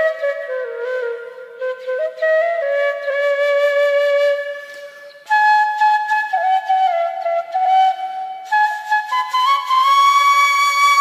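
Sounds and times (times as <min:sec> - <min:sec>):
bamboo flute melody: 0:00.0 - 0:11.0.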